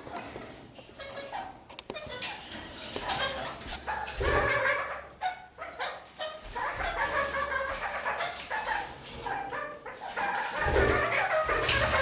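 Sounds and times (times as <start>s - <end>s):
parakeets chattering: 0.0s - 12.0s.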